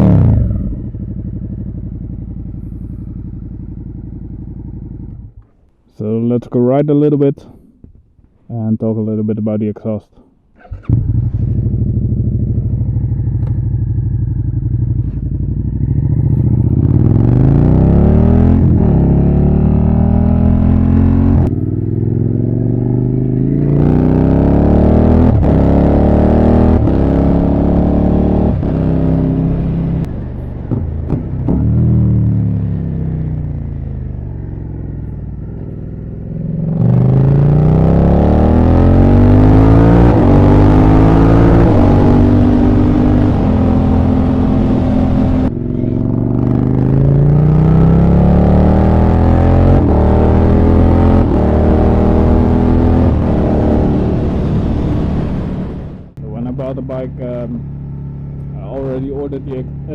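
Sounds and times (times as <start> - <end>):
motorcycle engine accelerating: 0.0 - 5.6, 10.6 - 59.9.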